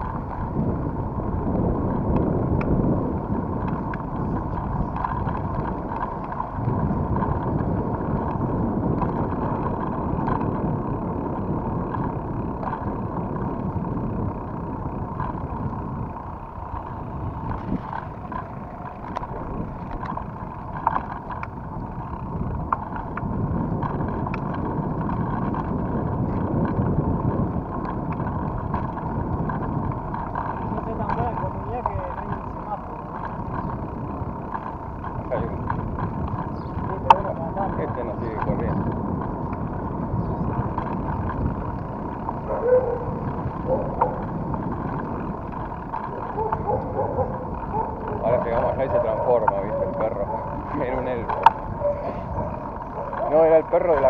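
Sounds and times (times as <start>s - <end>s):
bike clicks and rattles: 0.0s - 54.0s
bike tyres on wet pavement: 0.0s - 54.0s
wind on microphone: 0.0s - 54.0s.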